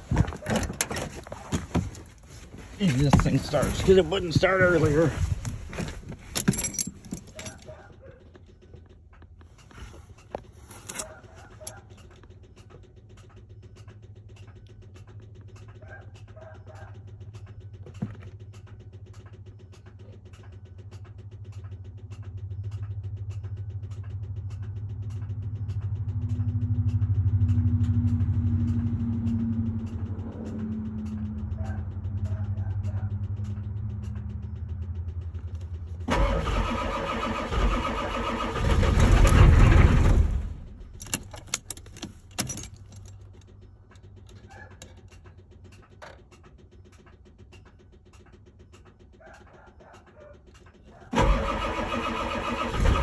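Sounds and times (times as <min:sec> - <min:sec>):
diesel engine cranking: 0:00.0 - 0:53.0.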